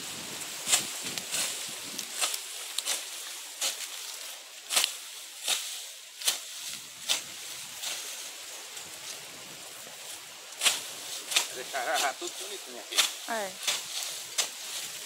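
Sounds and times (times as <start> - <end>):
hoe scraping dry soil: 0.0 - 15.0.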